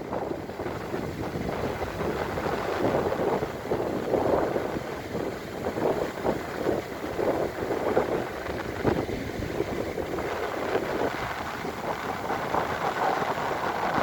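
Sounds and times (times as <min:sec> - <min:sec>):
sea waves breaking: 0:00.0 - 0:14.0
wind buffeting microphone: 0:00.0 - 0:14.0.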